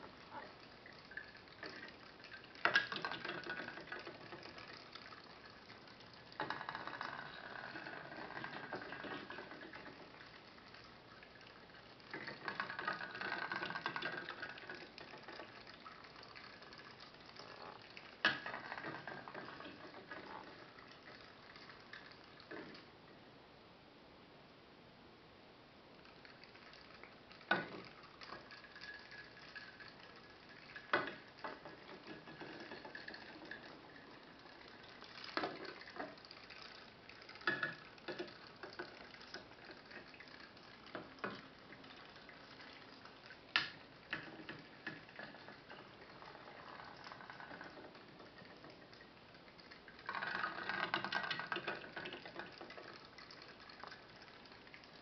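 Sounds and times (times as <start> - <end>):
steam engine popping and bubbling: 0.0 - 22.9, 26.0 - 55.0.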